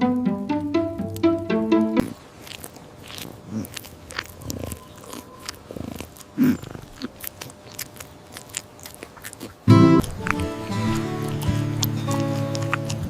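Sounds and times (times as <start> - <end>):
irregular crunching and clicking: 2.0 - 13.0.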